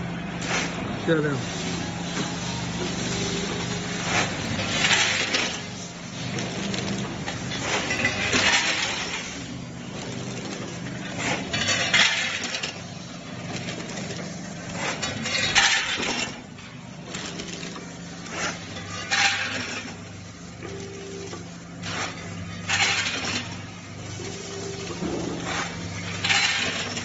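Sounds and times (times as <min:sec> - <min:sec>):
packing machine motor hum: 0:00.0 - 0:27.0.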